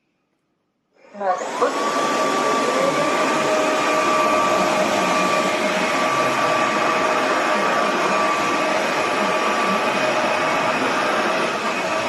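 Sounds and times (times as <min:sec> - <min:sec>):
vacuum mop running: 0:01.2 - 0:12.0.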